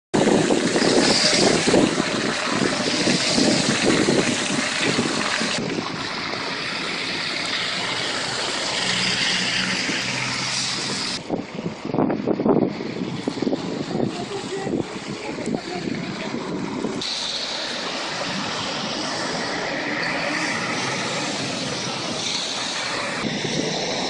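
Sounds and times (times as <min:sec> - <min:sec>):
road traffic: 0:00.1 - 0:24.0
wind buffeting microphone: 0:00.1 - 0:24.0
low engine hum: 0:00.2 - 0:24.0.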